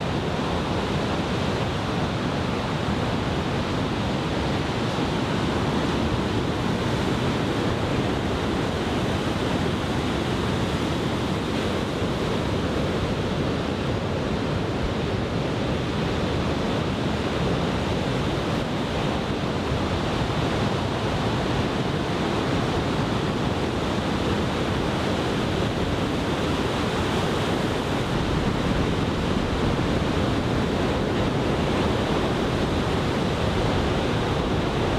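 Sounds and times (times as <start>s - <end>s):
heavy surf breaking on beach: 0.0s - 34.9s
wind on microphone: 0.0s - 34.9s.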